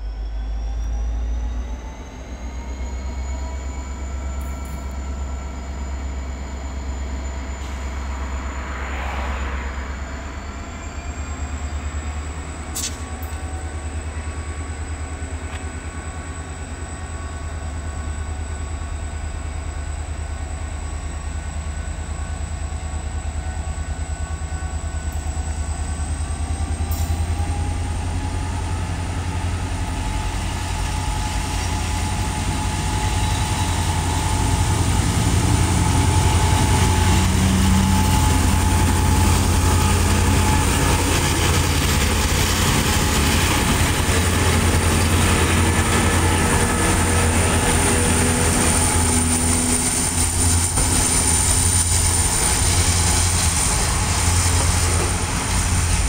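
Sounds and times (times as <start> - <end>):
diesel locomotive engine rumble: 0.0 - 56.0.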